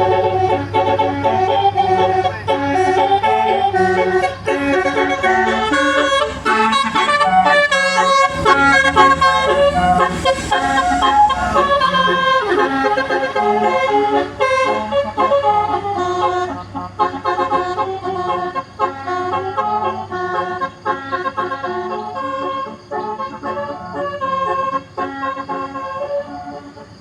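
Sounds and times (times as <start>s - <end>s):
steady low hum: 0.0s - 24.9s
multi-tone bus horn melody: 0.0s - 27.0s.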